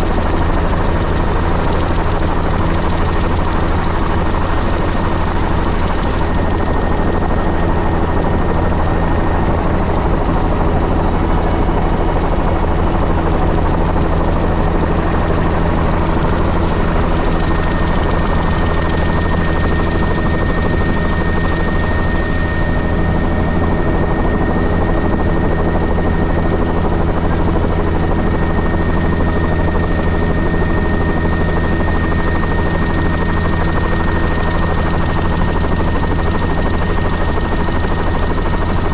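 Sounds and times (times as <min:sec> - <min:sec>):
helicopter cabin drone: 0:00.0 - 0:38.9.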